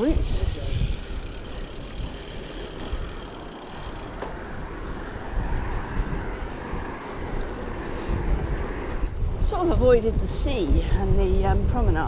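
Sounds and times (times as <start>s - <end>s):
bicycle tyre road noise: 0.0s - 11.7s
wind buffeting microphone: 0.0s - 12.0s.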